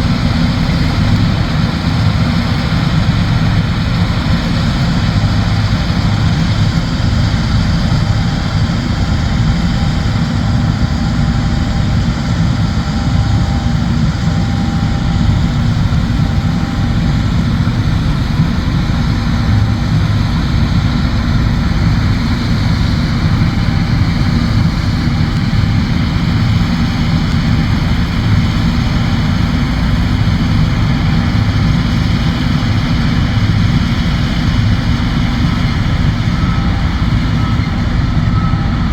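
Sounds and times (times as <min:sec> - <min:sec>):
combine harvester engine drone: 0:00.0 - 0:38.9
machinery whining tones: 0:00.0 - 0:38.9.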